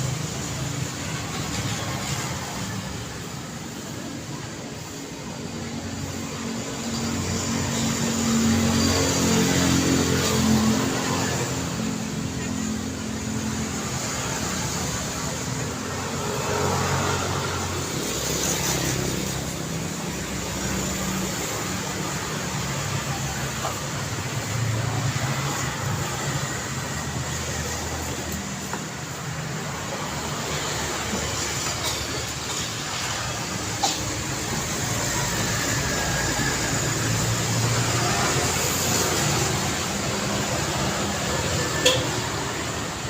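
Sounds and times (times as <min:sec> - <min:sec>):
tyre and road noise: 0:00.0 - 0:43.0.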